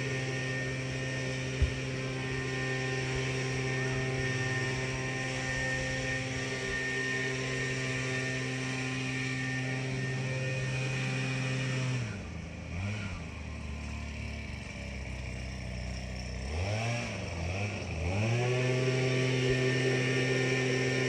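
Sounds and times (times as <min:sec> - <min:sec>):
tractor engine revving and idling: 0:00.0 - 0:21.0.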